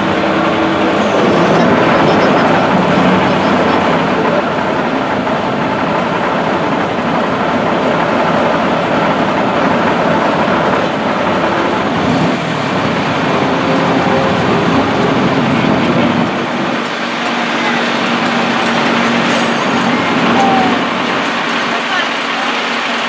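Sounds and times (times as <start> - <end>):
low hum: 0.0 - 21.7
ferry engine rumbling: 0.0 - 23.0.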